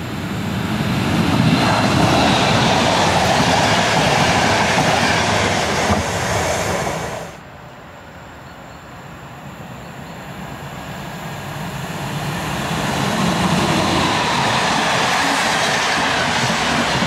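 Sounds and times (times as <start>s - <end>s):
train passing close by: 0.0s - 7.9s, 8.7s - 17.0s.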